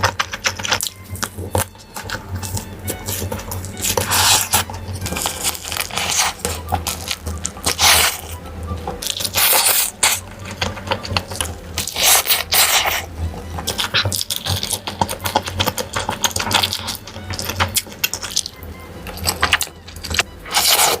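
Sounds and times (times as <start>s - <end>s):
chewing and slurping food: 0.0s - 21.0s.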